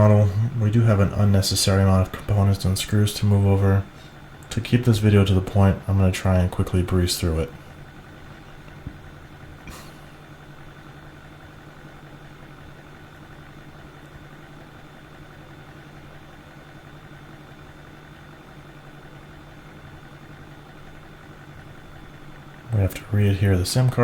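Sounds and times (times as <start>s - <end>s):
faint high whine: 0.0s - 24.0s
steady machine hum: 0.0s - 24.0s.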